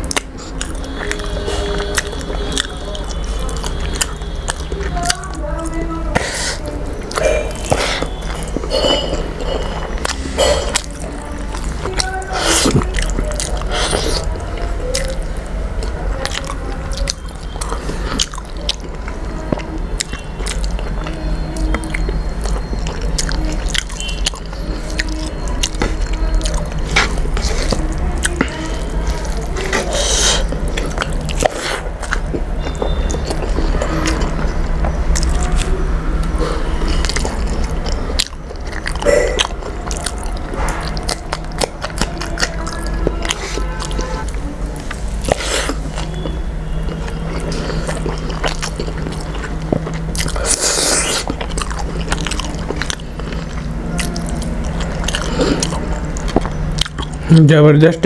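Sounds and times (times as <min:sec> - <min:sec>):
close chewing and mouth sounds: 0:00.0 - 0:58.0.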